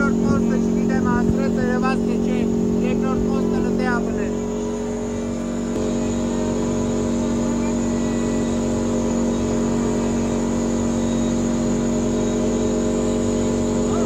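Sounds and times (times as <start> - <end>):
vehicle engine droning steadily: 0.0 - 14.0.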